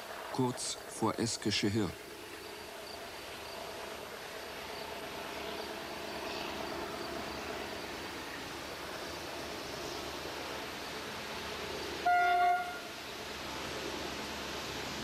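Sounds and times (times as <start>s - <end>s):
locomotive engine hum: 0.0s - 15.0s
crickets chirping: 0.4s - 15.0s.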